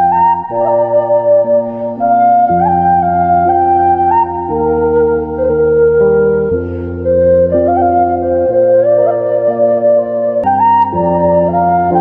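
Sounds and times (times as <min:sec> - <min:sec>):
slow melody over held chords: 0:00.0 - 0:12.0.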